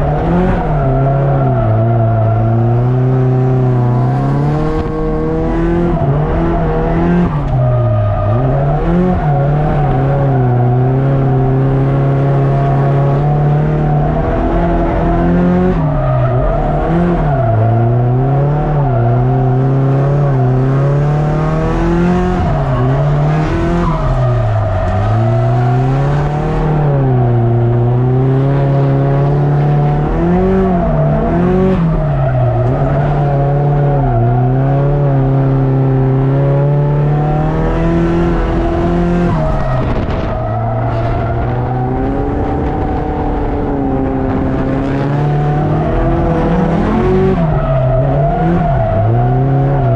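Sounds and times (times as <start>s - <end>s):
car engine revving high: 0.0s - 49.9s.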